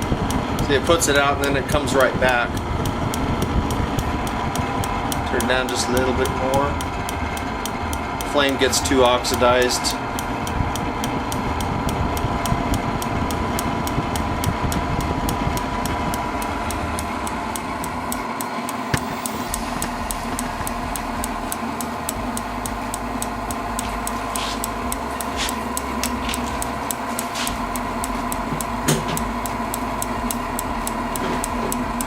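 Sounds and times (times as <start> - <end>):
heater fan and burner hum: 0.0 - 32.0
igniter clicking: 0.0 - 32.0.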